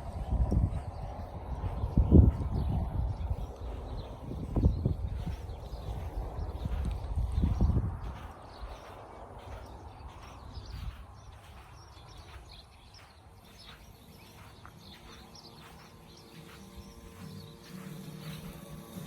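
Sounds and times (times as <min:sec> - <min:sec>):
birds chirping: 0:00.0 - 0:19.0
faint outdoor background noise: 0:00.0 - 0:19.0.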